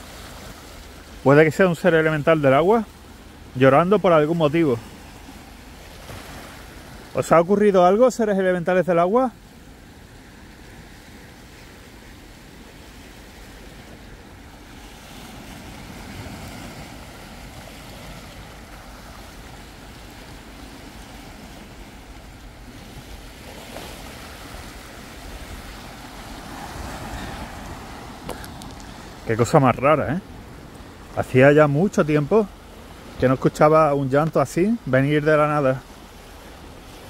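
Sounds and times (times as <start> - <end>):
small waves lapping over rocks: 0.0 - 8.0, 9.4 - 37.0.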